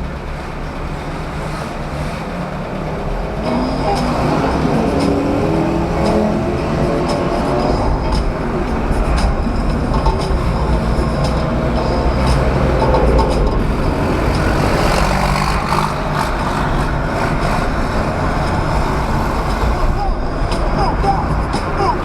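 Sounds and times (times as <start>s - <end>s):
road vehicle rumbling: 0.0s - 22.0s.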